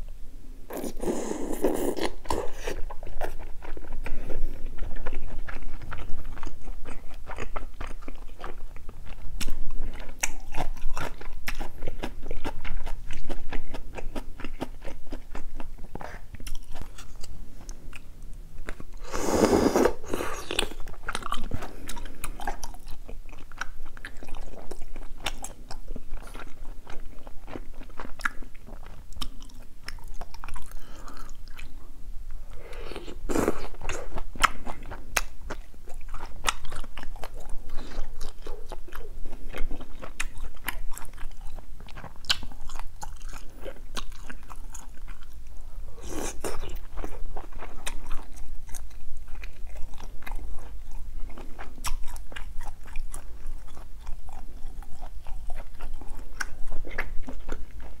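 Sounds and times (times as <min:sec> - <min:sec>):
chewing and biting food: 0:00.7 - 0:19.0, 0:19.8 - 0:31.7, 0:33.3 - 0:58.0.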